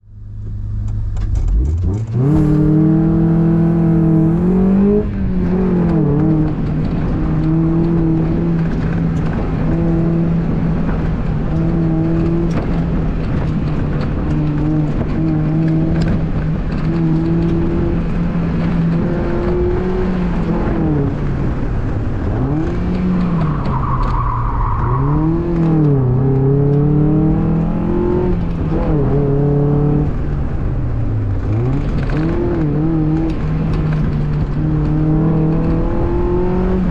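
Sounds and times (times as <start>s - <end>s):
car engine revving: 0.2s - 36.9s.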